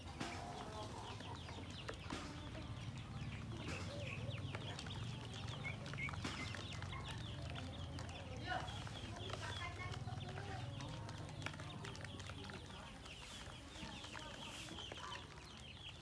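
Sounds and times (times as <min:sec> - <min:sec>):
ducklings peeping: 0:00.1 - 0:16.0.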